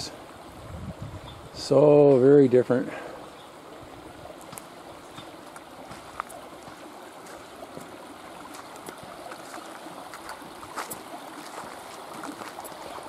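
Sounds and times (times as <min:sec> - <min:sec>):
river water flowing over stones: 0:00.0 - 0:13.0.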